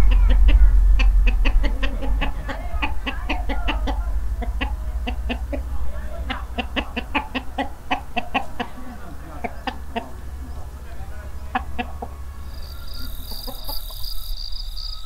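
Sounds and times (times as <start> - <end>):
low rumble: 0.0 - 14.9
hens clucking: 0.0 - 15.0.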